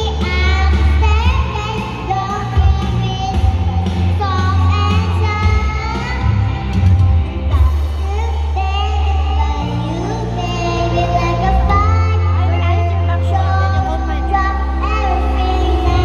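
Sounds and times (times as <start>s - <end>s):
backing track with bass: 0.0s - 16.0s
girl singing pop song: 0.0s - 16.0s.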